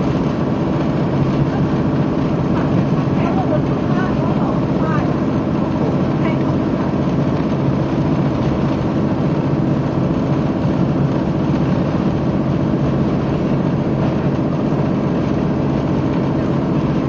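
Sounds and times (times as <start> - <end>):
diesel engine drone: 0.0 - 17.0
wheels rumbling on rails: 0.0 - 17.0.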